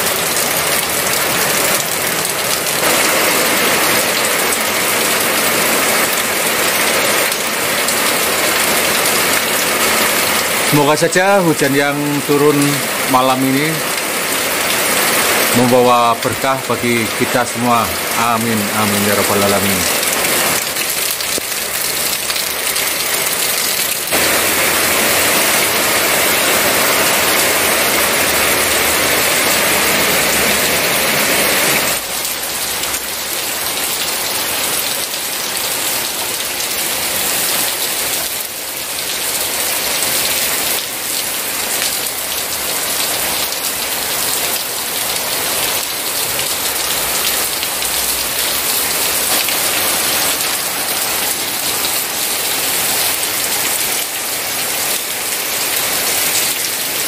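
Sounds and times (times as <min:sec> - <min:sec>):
heavy rain falling: 0:00.0 - 0:57.0
water splashing onto wet paving: 0:00.0 - 0:57.0.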